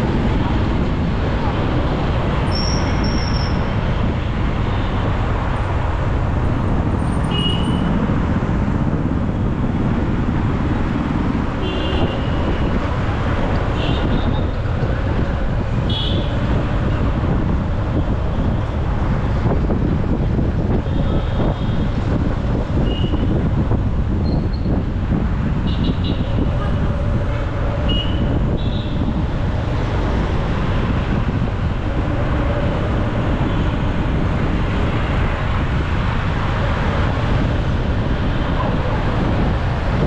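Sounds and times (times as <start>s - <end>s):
traffic and road noise: 0.0s - 40.0s.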